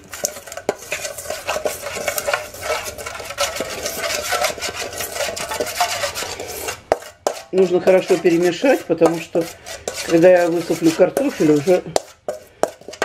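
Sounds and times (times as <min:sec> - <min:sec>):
spoon scraping metal bowl: 0:00.0 - 0:13.0.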